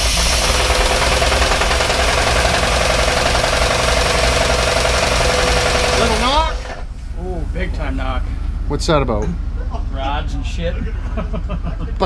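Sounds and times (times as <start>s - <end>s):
van engine running with knock: 0.0s - 9.7s.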